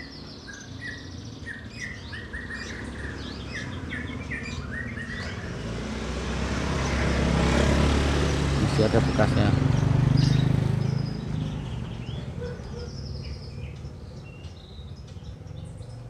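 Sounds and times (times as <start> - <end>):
small bird chirping: 0.0 - 5.8, 8.1 - 16.0
passing vehicle rumble: 0.0 - 16.0.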